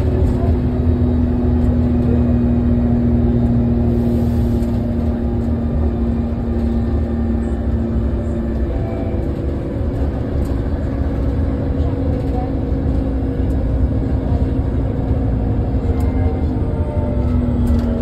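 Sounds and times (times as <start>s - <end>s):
bus engine drone with whine: 0.0s - 18.0s.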